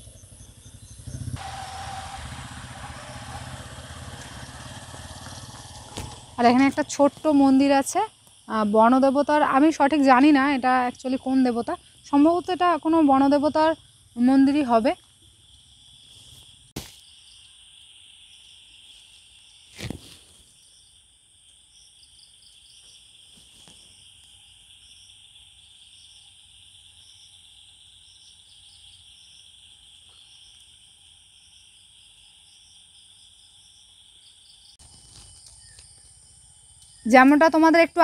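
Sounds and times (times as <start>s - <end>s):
insects buzzing: 0.0s - 38.0s
insects pulsing chirps: 0.0s - 38.0s.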